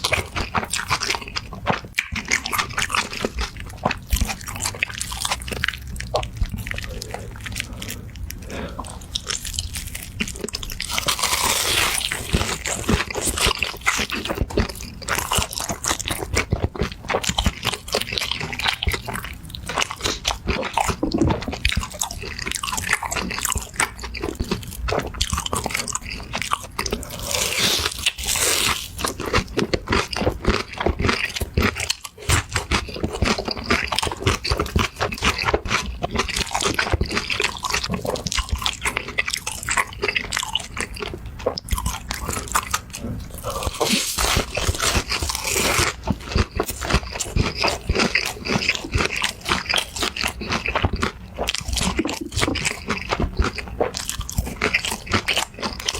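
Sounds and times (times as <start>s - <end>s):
chewing: 0.0s - 55.9s.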